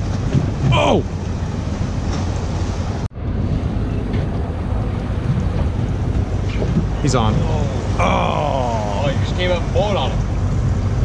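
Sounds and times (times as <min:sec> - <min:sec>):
choppy water rushing: 0:00.0 - 0:11.0
wind buffeting microphone: 0:00.0 - 0:11.0.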